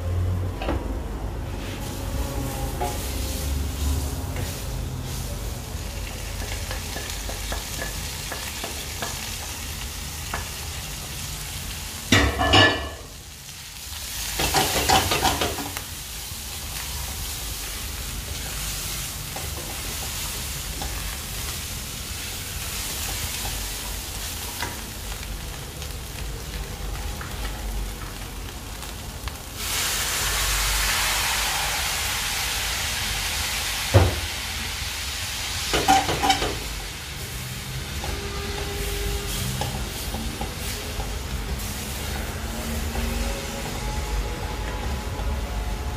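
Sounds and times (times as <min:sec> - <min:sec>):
food sizzling in a pan: 0:01.5 - 0:45.9.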